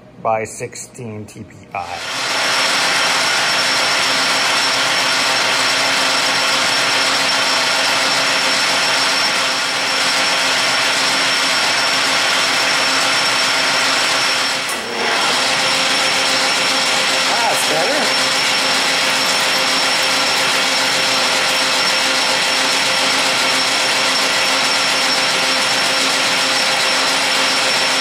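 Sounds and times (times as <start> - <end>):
metal cutting noise: 1.8 - 28.0
metal lathe whine: 2.0 - 28.0.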